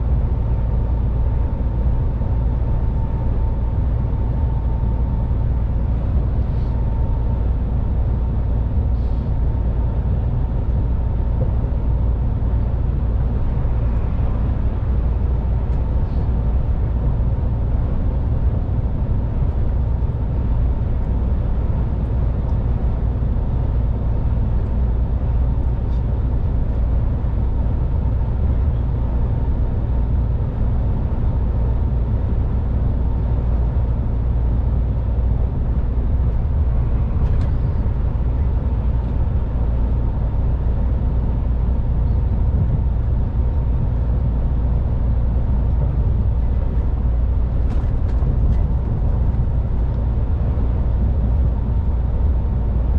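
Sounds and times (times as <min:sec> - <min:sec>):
truck engine and tyres rumbling: 0:00.0 - 0:52.9.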